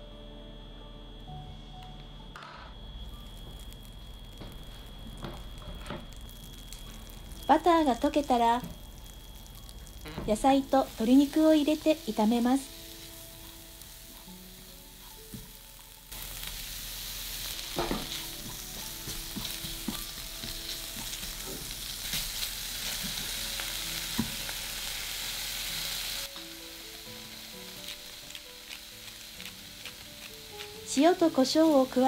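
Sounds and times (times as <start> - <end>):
vegetables and chicken sizzling: 2.8 - 32.0.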